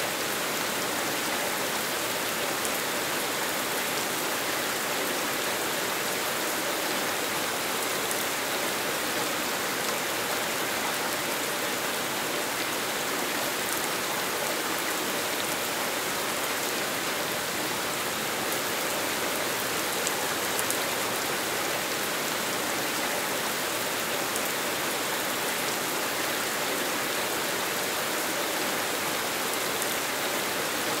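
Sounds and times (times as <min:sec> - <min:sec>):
rain on pavement: 0:00.0 - 0:31.0.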